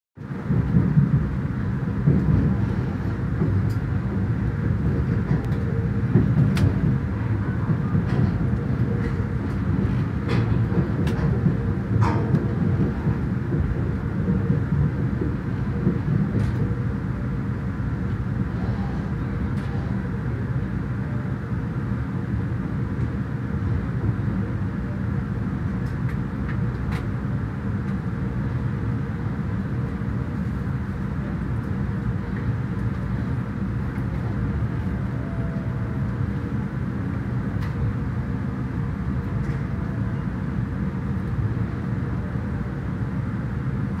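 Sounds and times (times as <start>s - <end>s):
electric train rumbling: 0.2s - 44.0s.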